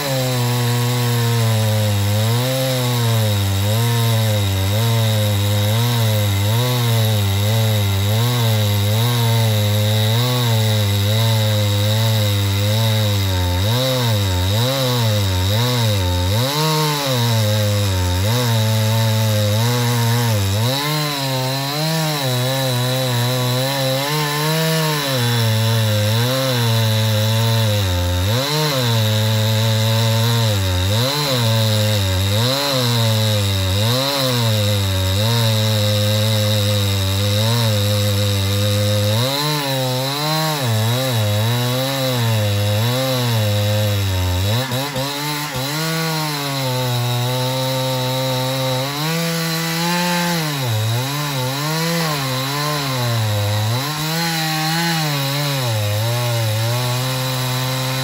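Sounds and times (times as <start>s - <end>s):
chainsaw cutting tree: 0.0s - 58.0s.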